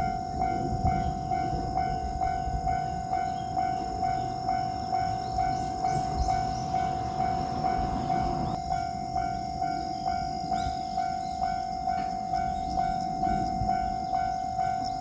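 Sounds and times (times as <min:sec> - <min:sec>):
level crossing alarm dinging: 0:00.0 - 0:15.0.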